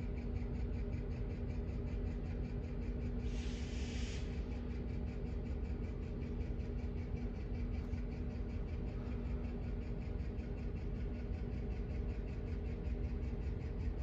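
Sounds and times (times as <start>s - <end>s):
low steady rumble and hum: 0.0s - 14.0s.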